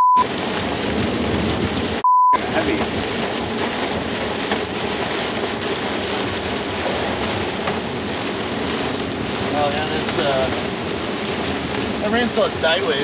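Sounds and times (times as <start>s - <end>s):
heavy rain on car windshield: 0.2s - 13.0s.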